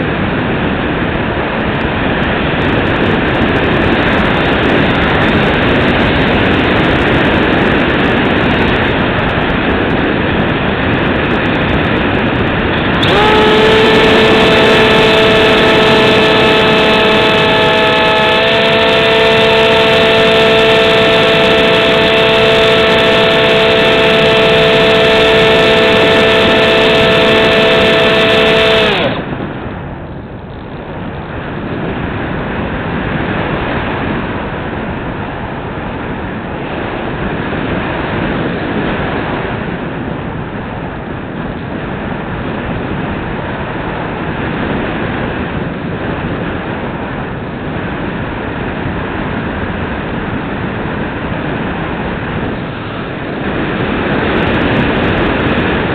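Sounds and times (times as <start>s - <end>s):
airflow rushing over camera: 0.0s - 55.9s
electric motor and propeller whining: 0.0s - 55.9s.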